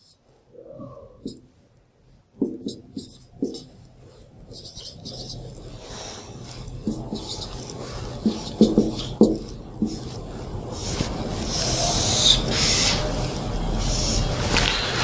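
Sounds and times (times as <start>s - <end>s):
marker squeaking on whiteboard: 0.8s - 1.5s, 2.4s - 14.9s
marker rubbing strokes: 1.2s - 1.5s, 2.4s - 14.5s.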